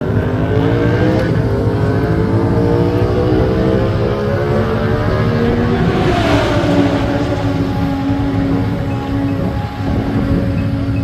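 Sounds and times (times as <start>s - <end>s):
motorcycle engine running: 1.3s - 11.0s.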